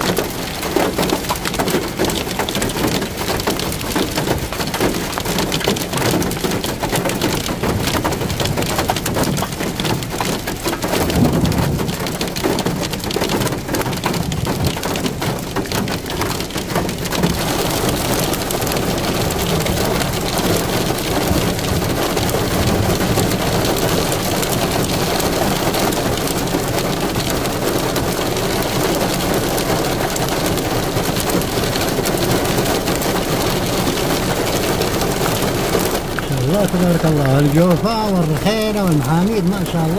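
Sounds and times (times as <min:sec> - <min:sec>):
rain drops pattering: 0:00.0 - 0:39.9
steady rain hiss: 0:00.0 - 0:39.9.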